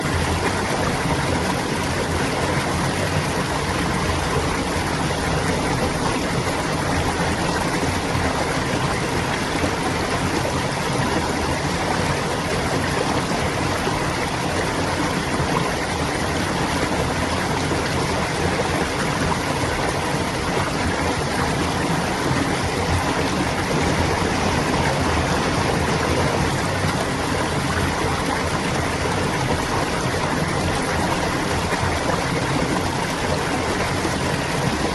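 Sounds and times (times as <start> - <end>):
stream flowing and babbling: 0.0 - 34.9.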